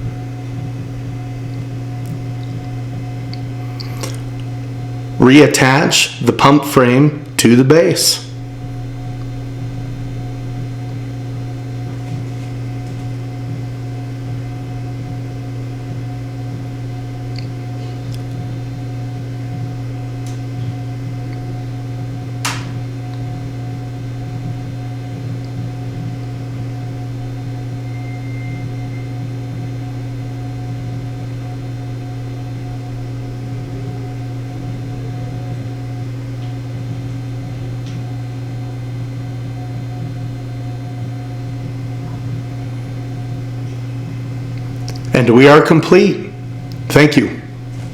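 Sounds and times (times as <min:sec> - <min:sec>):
low mechanical hum: 0:00.0 - 0:47.9.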